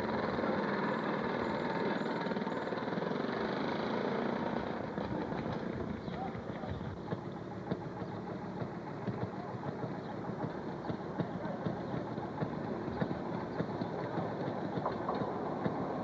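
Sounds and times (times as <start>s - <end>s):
railroad motorcar engine popping: 0.0s - 16.0s.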